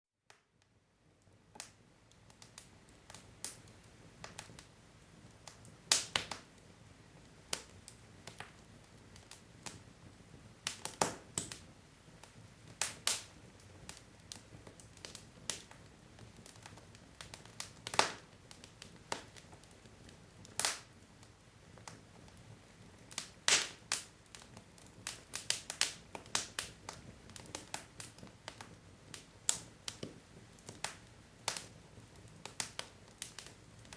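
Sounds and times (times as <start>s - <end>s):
logs crackling in a fireplace: 0.3s - 33.9s.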